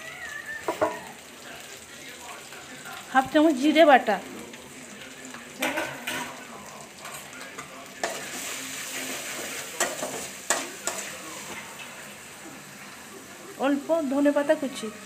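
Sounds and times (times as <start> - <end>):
sizzling in hot oil: 0.0 - 15.0.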